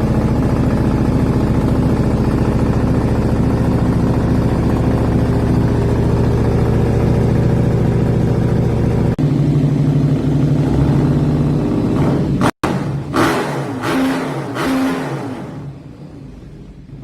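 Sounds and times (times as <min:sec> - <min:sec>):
motorcycle exhaust idling: 0:00.0 - 0:17.0
second motorcycle idling: 0:00.0 - 0:17.0.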